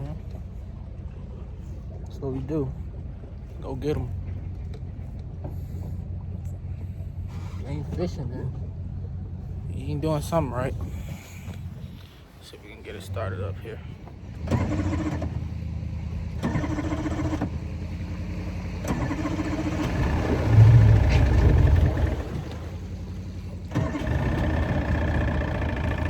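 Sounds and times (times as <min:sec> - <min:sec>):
boat engine starting: 0:00.0 - 0:26.0.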